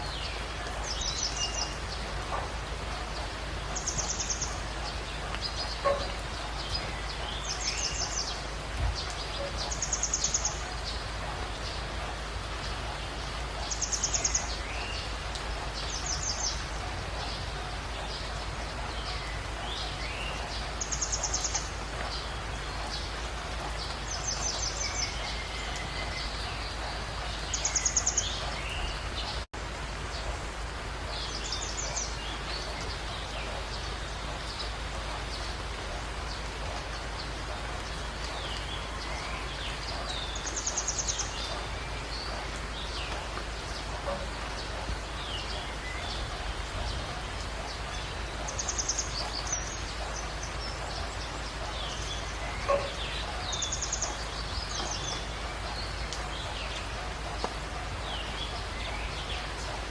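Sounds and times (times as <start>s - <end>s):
birds chirping: 0.0s - 59.9s
steady background hiss: 0.0s - 59.9s.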